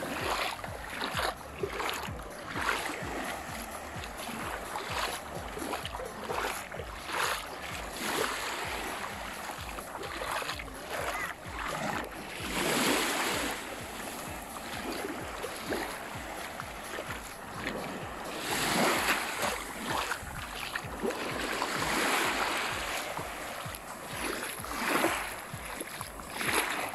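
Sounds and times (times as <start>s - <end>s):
small waves lapping on shore: 0.0s - 26.9s.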